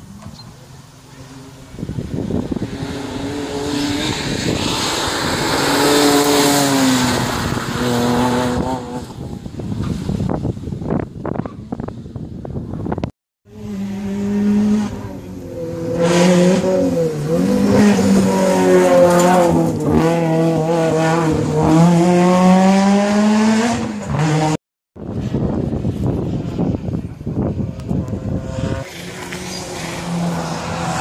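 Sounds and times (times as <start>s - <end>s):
race car engine at high revs: 0.6s - 10.0s, 13.5s - 24.6s, 25.2s - 31.0s.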